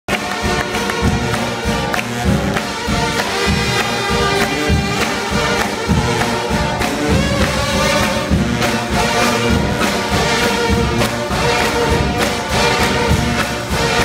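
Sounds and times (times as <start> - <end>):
live church band music: 0.1 - 14.0.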